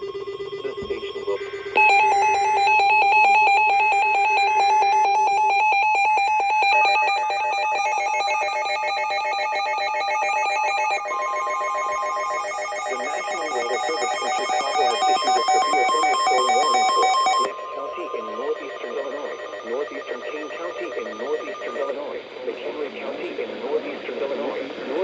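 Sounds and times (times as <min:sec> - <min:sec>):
pulsing electronic alert trill: 0:00.0 - 0:21.9.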